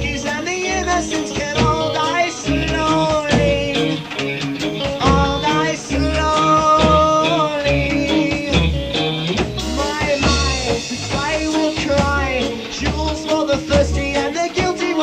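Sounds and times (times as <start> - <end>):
drum kit: 0.0 - 15.0
electric guitar: 0.0 - 15.0
person singing: 0.0 - 15.0.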